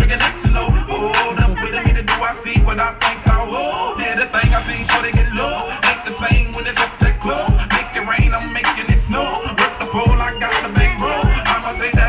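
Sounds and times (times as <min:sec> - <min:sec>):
rapping over a heavy bass beat: 0:00.0 - 0:12.0.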